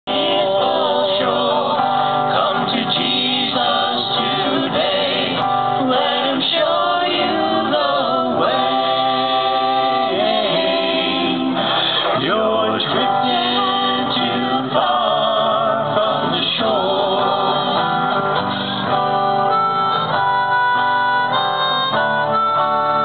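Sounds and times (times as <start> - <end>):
vocal group singing in harmony: 0.1 - 19.7.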